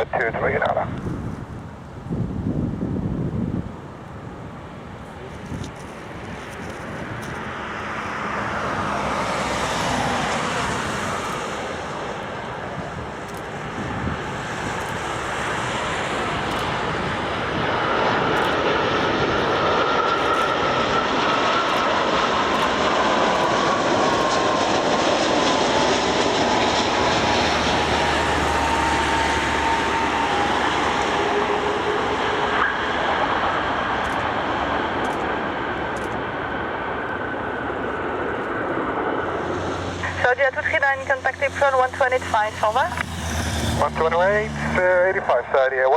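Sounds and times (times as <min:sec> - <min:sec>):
airliner jet engines passing: 0:00.0 - 0:45.9.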